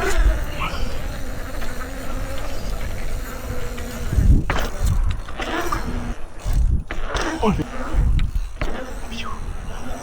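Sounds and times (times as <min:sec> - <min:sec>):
bicycle freewheel hub buzzing: 0:00.0 - 0:10.0
tyre and trail noise: 0:00.0 - 0:10.0.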